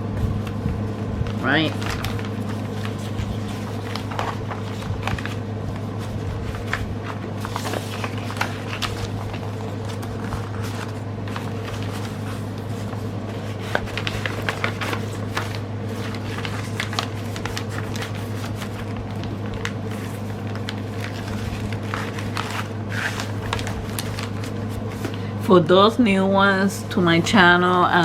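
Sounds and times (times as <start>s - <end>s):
steady low hum: 0.0s - 28.0s
packaging and papers crinkling: 1.3s - 25.3s.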